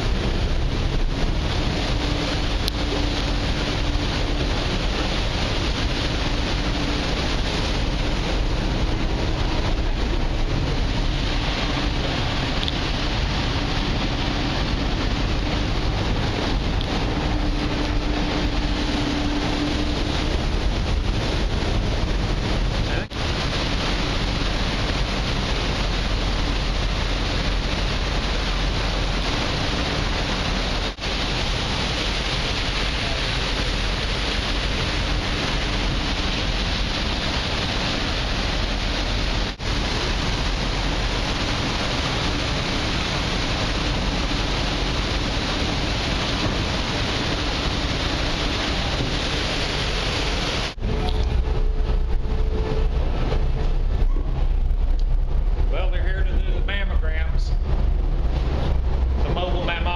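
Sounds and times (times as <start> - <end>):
low ship engine rumble: 0.0 - 59.9
water rushing along ship hull: 0.0 - 59.9
wind on microphone: 0.0 - 59.9.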